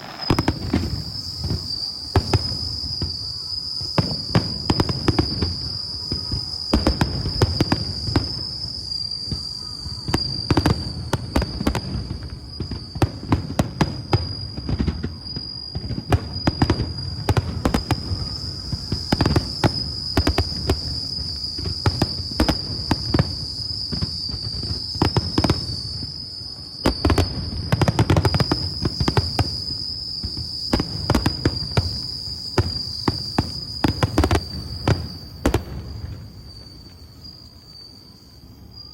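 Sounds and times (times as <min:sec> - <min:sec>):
firework bangs and crackles: 0:00.0 - 0:38.8.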